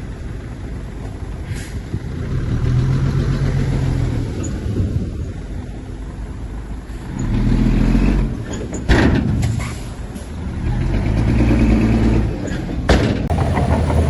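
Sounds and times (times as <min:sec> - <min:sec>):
heavy diesel engine under load: 0:00.0 - 0:14.0.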